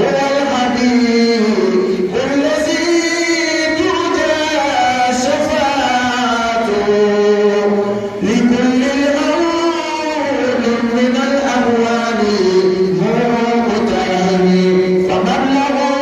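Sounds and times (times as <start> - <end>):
man chanting a slow song: 0.0 - 16.0.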